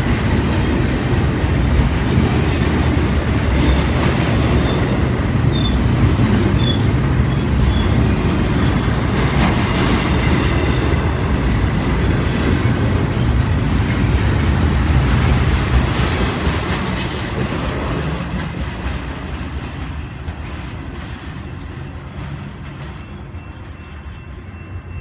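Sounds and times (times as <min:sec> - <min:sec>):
train wheels clicking: 0:00.0 - 0:25.0
train wheels rumbling on rail: 0:00.0 - 0:25.0.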